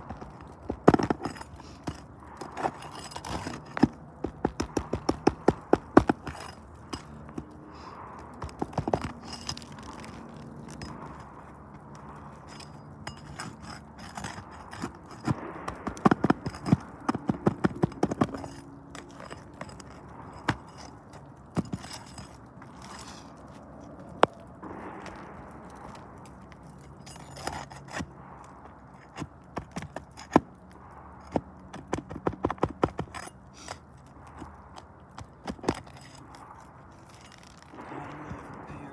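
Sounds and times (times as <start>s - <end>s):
pry bar scraping under shingles: 0.0s - 38.7s.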